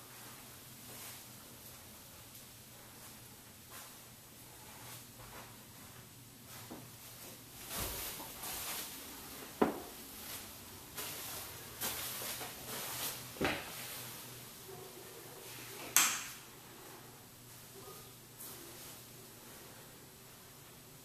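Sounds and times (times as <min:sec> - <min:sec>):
rustling and shuffling: 0:00.0 - 0:21.0.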